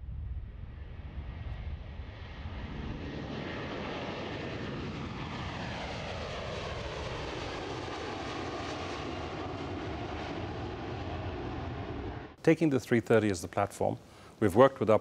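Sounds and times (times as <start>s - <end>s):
jet airliner flying past: 0.0s - 13.5s.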